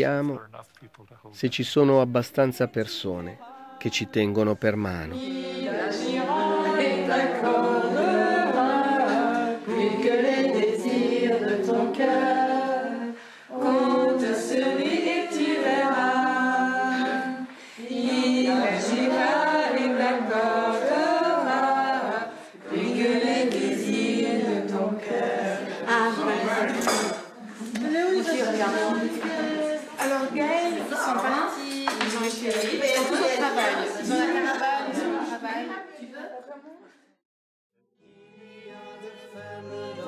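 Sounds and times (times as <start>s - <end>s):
group singing unaccompanied: 2.4s - 36.3s, 38.0s - 40.0s.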